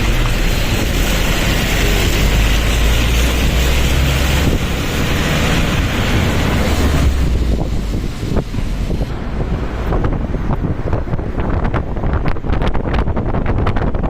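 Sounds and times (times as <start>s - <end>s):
vehicle rumble: 0.0s - 14.0s
wind buffeting microphone: 0.0s - 14.0s.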